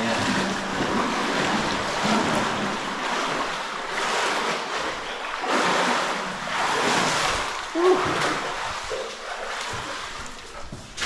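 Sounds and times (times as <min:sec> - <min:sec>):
cave stream rushing water: 0:00.0 - 0:11.0.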